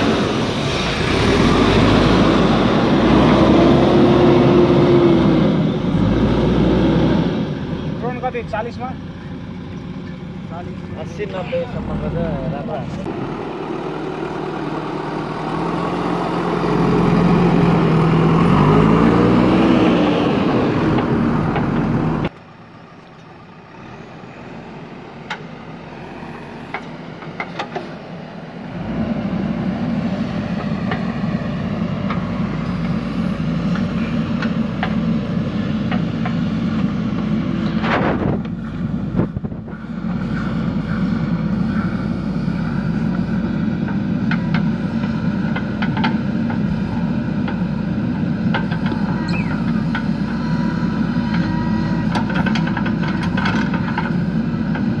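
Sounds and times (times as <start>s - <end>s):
diesel engine revving: 0.0s - 22.4s, 23.4s - 55.0s.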